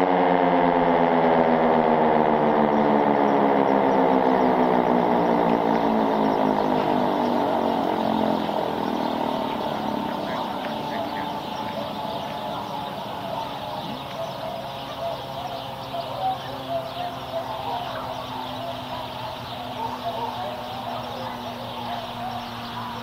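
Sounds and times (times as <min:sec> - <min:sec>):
warning siren winding down: 0:00.0 - 0:23.0.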